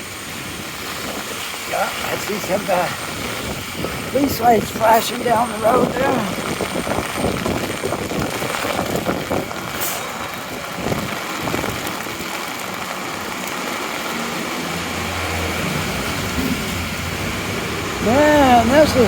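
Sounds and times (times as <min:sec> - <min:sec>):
gusty wind: 0:00.0 - 0:19.0
heavy rain pouring: 0:00.0 - 0:19.0
traffic noise: 0:00.0 - 0:19.0
vehicle engine humming: 0:00.0 - 0:19.0.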